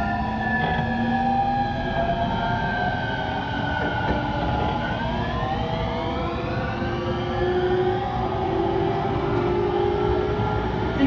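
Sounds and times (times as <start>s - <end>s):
electric train inverter whine: 0.0s - 11.0s
rumbling station noise: 0.0s - 11.0s.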